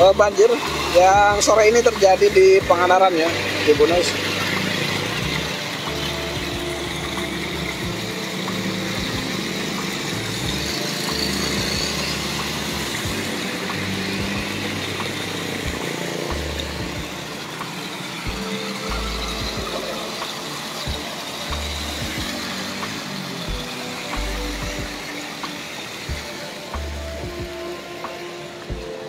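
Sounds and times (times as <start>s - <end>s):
motorcycle engines running: 0.0s - 29.0s
tyres splashing through water: 0.0s - 29.0s.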